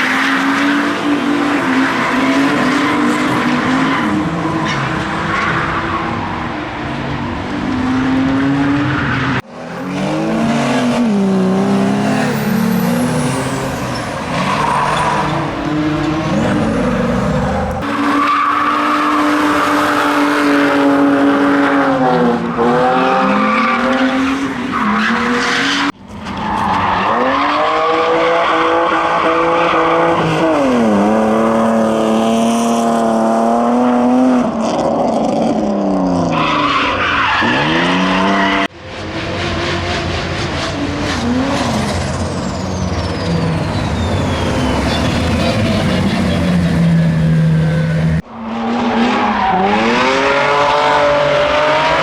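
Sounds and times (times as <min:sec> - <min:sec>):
car engines revving hard: 0:00.0 - 0:52.0
tyres skidding and squealing: 0:00.0 - 0:52.0.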